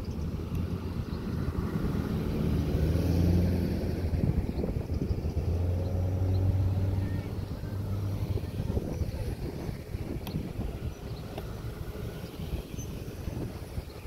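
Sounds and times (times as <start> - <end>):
cars passing slowly: 0.0 - 14.0.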